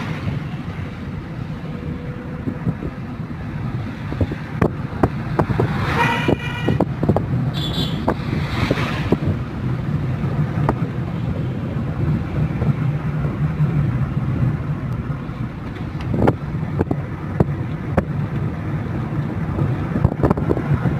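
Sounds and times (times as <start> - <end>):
vehicle engine drone: 0.0 - 20.9.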